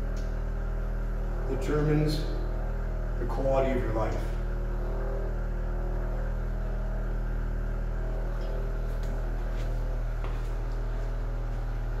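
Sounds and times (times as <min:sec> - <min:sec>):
vibration platform humming: 0:00.0 - 0:12.0.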